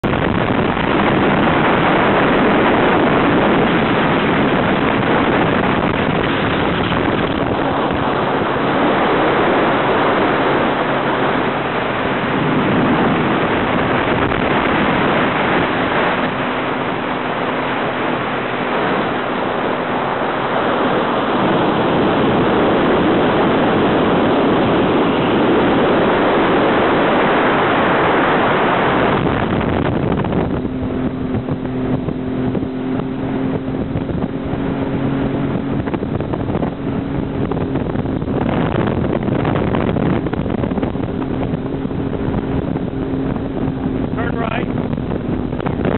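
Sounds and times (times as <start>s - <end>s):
jet ski engine drone: 0.0s - 45.9s
moving water: 0.0s - 45.9s
wind rushing on microphone: 0.0s - 45.9s.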